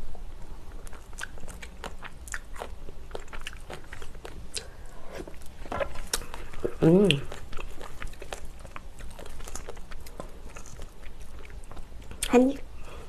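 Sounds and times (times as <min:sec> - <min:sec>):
person chewing food: 0:00.4 - 0:13.0.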